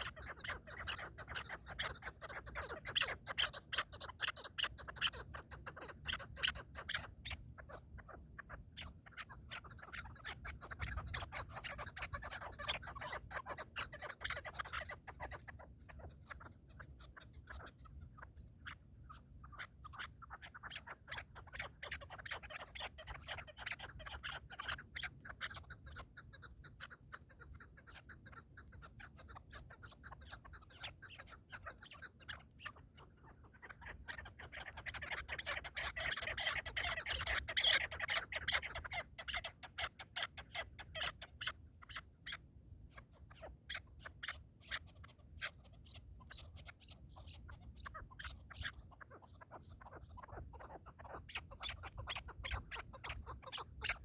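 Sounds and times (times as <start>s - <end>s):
partridges calling: 0.0s - 42.1s, 44.1s - 54.0s.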